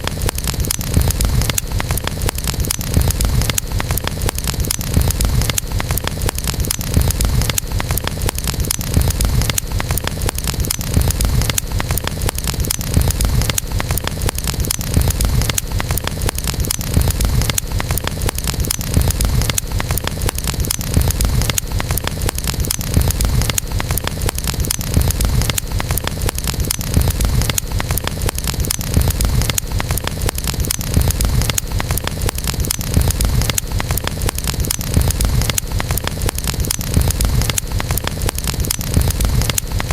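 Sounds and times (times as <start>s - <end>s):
campfire wood crackling: 0.0s - 39.9s.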